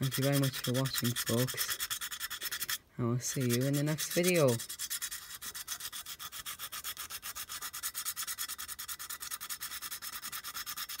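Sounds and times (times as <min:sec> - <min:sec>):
sanding metal by hand: 0:00.0 - 0:11.0.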